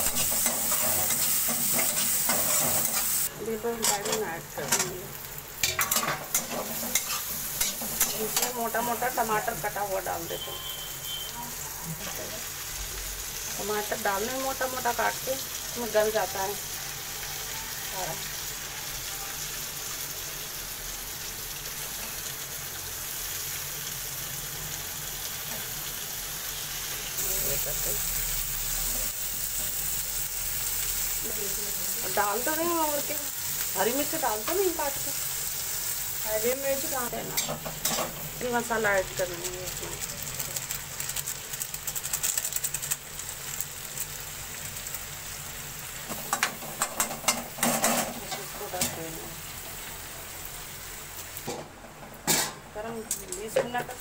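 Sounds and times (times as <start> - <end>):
vegetables frying in oil: 0.0 - 54.0.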